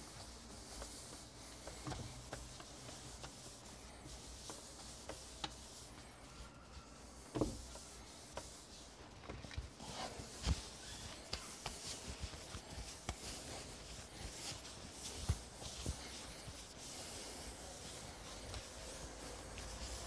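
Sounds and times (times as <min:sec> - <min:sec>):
towel rubbing bowling ball: 0:00.0 - 0:20.0.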